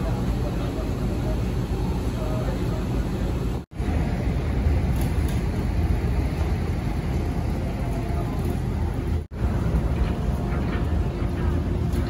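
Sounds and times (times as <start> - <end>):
harbour noise: 0.0 - 12.0
low engine rumble: 0.0 - 12.0.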